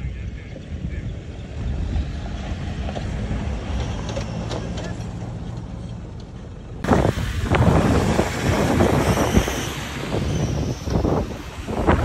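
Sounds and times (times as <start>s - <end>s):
distant car engine rumbling: 0.0s - 12.0s.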